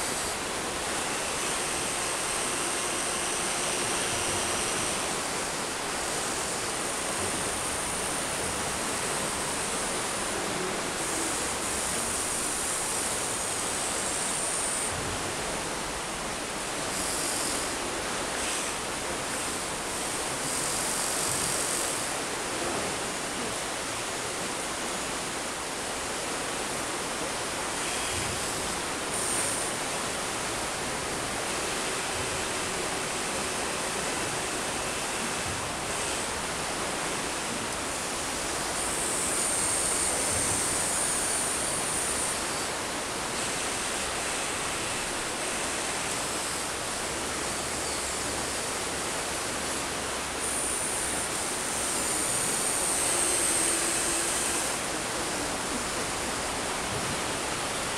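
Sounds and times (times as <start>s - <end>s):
high electric motor whine: 0.0s - 57.9s
water rushing: 0.0s - 57.9s.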